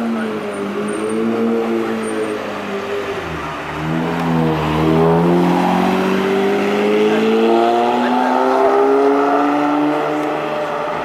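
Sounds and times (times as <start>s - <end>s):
sports car accelerating: 0.0s - 11.0s.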